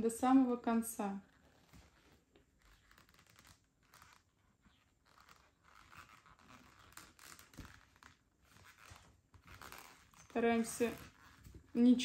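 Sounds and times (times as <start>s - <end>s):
yarn rustling: 0.0s - 12.0s.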